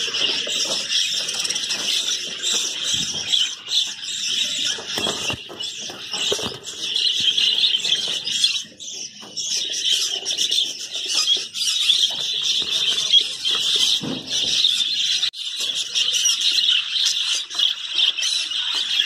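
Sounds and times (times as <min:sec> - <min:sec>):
budgerigars chattering and chirping: 0:00.0 - 0:19.0.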